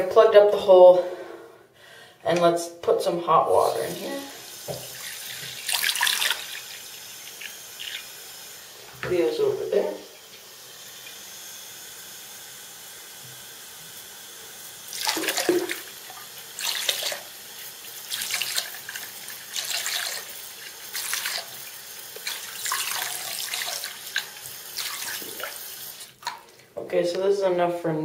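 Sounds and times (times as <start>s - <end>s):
tap water running into sink: 3.5s - 26.6s.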